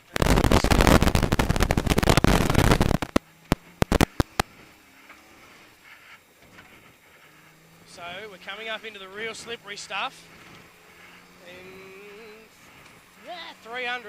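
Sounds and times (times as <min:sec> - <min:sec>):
gravel rattling against car: 0:00.0 - 0:14.0.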